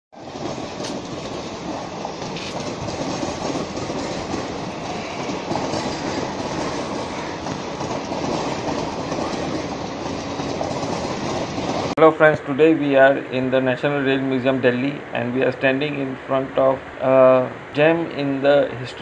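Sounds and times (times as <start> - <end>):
train wheels rumbling on rails: 0.1 - 19.0.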